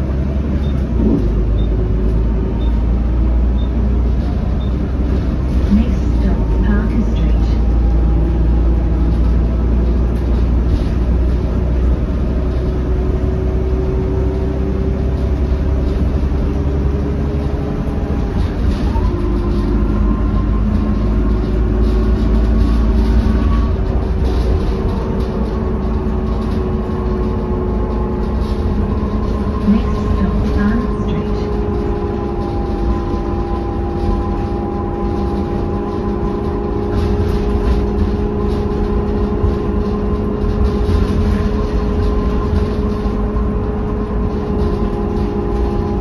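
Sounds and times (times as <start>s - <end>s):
bus diesel engine drone: 0.0s - 46.0s
road rumble: 0.0s - 46.0s.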